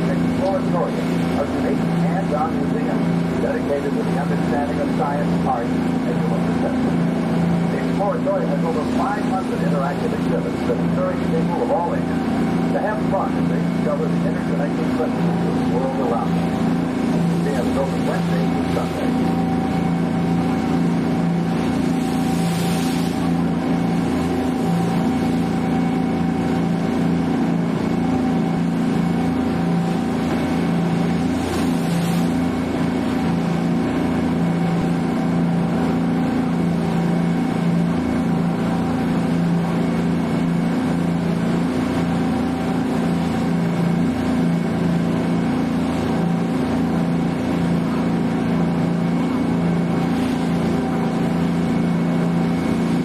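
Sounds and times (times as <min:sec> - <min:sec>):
faint steady whine: 0:00.0 - 0:45.4
boat engine droning: 0:00.0 - 0:53.0.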